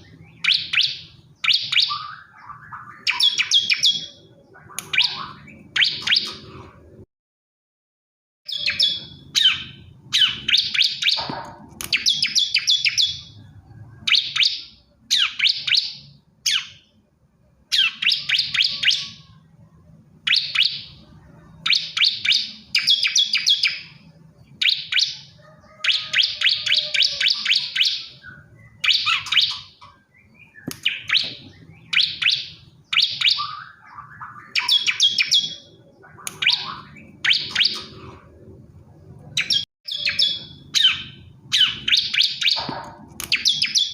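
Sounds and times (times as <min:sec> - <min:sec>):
bird singing trilled phrases: 0:00.0 - 0:06.7, 0:08.5 - 0:17.0, 0:17.6 - 0:19.5, 0:20.2 - 0:38.4, 0:39.0 - 0:43.9.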